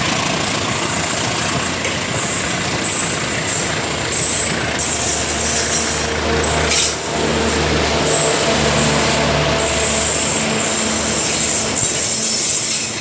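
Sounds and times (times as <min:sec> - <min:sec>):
train rumbling: 0:00.0 - 0:13.0
high-pitched train squeals: 0:00.3 - 0:13.0
rushing sound: 0:00.4 - 0:13.0.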